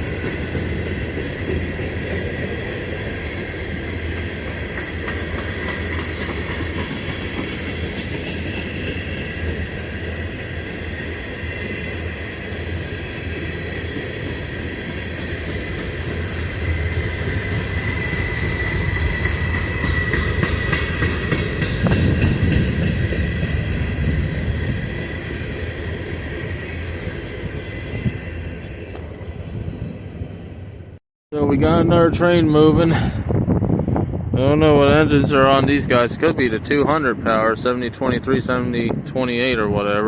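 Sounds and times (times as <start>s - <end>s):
rumble of train wheels: 0.0s - 40.0s.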